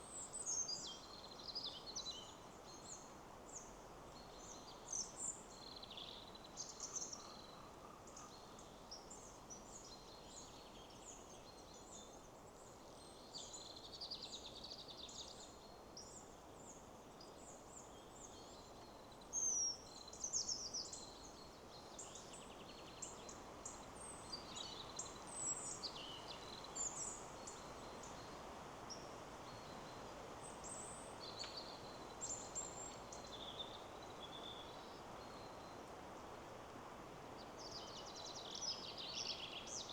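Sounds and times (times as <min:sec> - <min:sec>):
wind in trees: 0:00.0 - 0:39.9.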